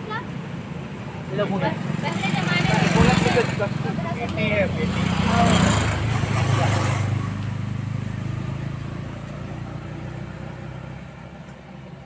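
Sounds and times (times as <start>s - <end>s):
vehicle engine rumble driving away: 0.0s - 12.0s.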